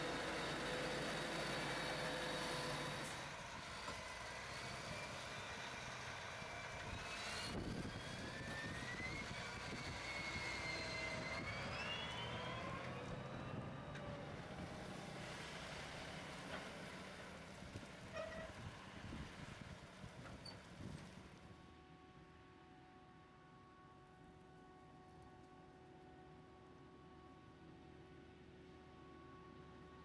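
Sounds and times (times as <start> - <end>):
tractor engines whining: 0.0 - 30.0.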